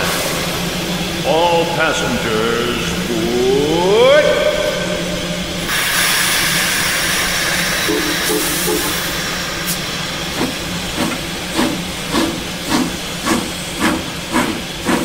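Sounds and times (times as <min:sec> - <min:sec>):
steam hissing: 0:00.0 - 0:15.0
steam locomotive exhaust chuffs: 0:00.0 - 0:15.0.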